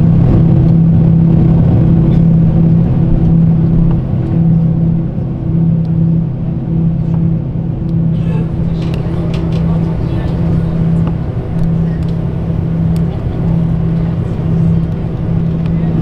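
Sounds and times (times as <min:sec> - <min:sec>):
aircraft engines idling in cabin: 0:00.0 - 0:16.0.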